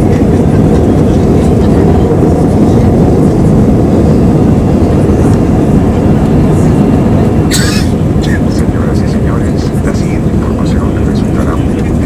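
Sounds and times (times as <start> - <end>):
airliner engines at takeoff power: 0.0 - 12.0
airliner rolling on runway: 0.0 - 12.0.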